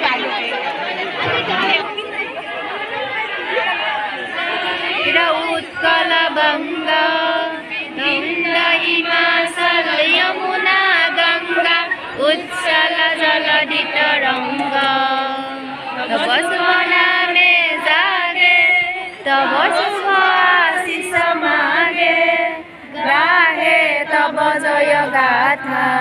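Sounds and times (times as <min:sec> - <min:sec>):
voices singing in unison: 0:02.6 - 0:26.0.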